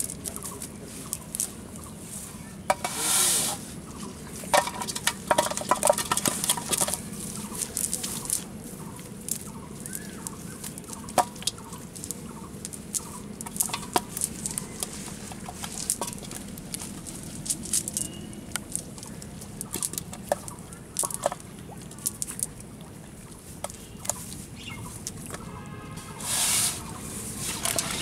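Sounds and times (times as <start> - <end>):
fish picked from wet net: 4.0 - 28.0.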